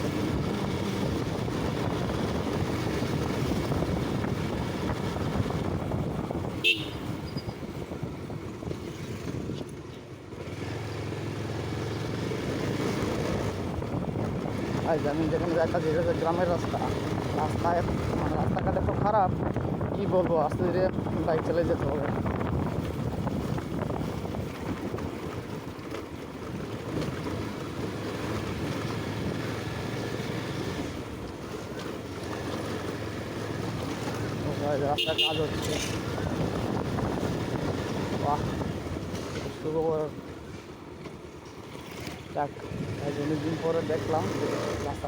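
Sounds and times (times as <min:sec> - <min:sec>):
wind rumbling on microphone: 0:00.0 - 0:10.5, 0:12.1 - 0:40.8
motorcycle engine running: 0:00.0 - 0:45.0.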